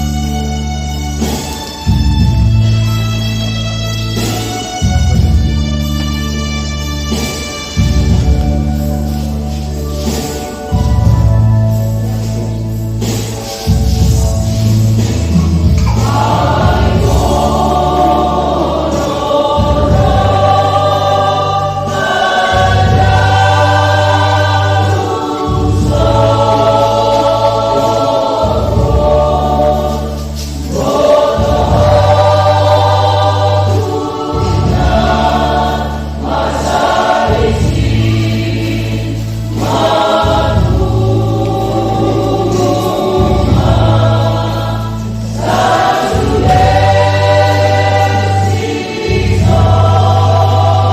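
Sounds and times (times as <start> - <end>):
church choir singing a hymn: 0.0 - 50.9
low steady accompaniment: 0.0 - 50.9.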